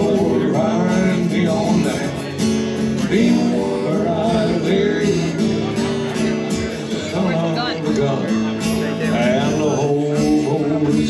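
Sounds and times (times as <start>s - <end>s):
strummed acoustic guitar music: 0.0s - 11.0s.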